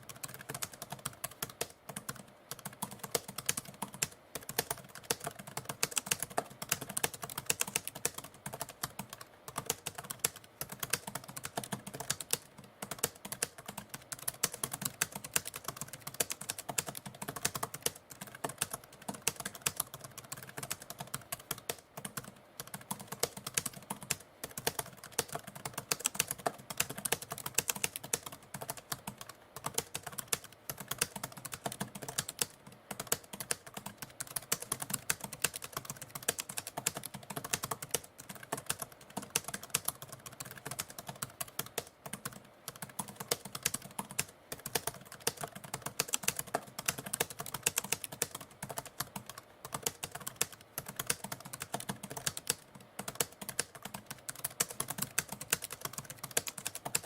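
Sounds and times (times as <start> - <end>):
typewriter typing: 0.0 - 57.0.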